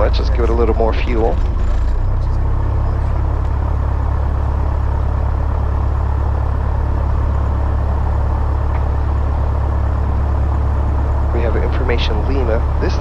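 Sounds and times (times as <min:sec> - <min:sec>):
propeller airplane engine idling: 0:00.0 - 0:13.0.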